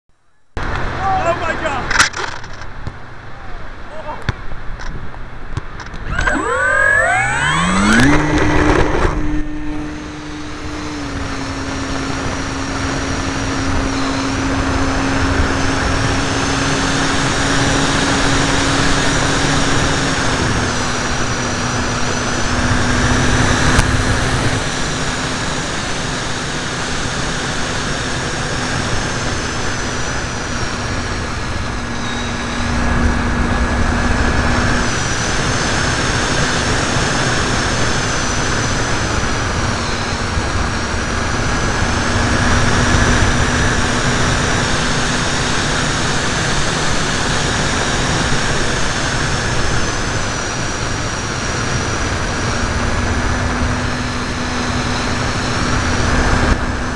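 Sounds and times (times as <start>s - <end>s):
wind rushing over microphone: 2.6s - 56.9s
model plane motor and propeller buzzing: 5.8s - 56.9s.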